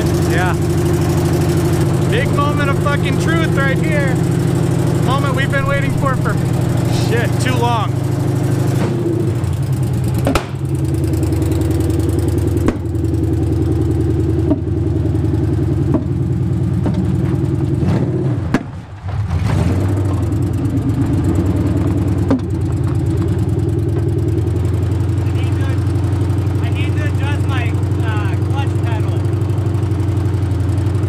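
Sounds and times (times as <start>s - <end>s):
car engine idling: 0.0s - 31.0s
sharp exhaust pops: 0.0s - 31.0s.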